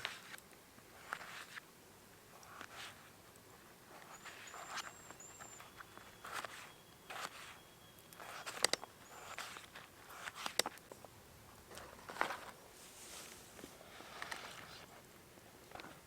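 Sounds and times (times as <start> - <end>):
rustling: 2.3 - 16.0.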